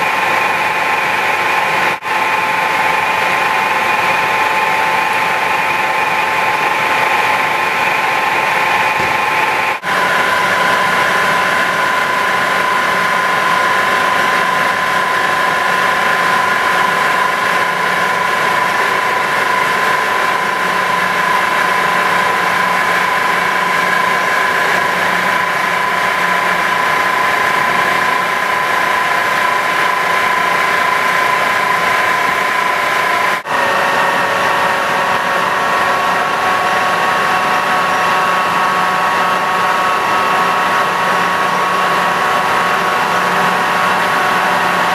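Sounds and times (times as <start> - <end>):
milling machine whine and hum: 0.0 - 44.9.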